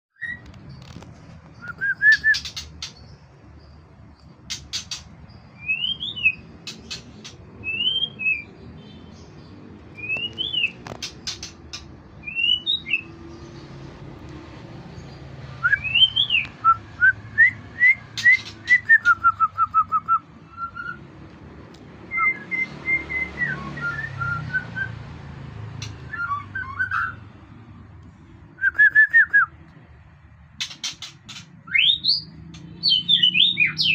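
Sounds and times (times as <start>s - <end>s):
songbird whistled song: 0.1s - 13.6s, 14.9s - 21.2s, 22.0s - 25.2s, 25.8s - 27.3s, 28.5s - 29.7s, 30.6s - 33.9s.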